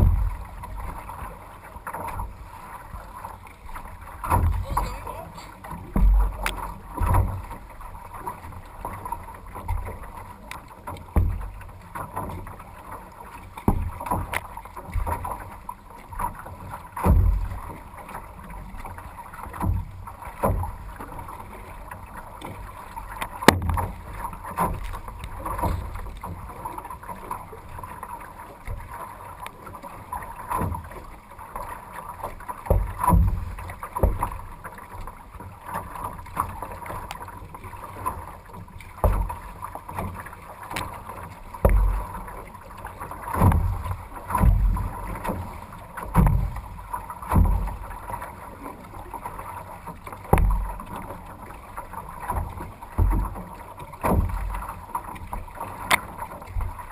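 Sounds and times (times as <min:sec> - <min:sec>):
water rushing along hull: 0:00.0 - 0:56.9
waves and paddle knocking boat: 0:00.0 - 0:56.9.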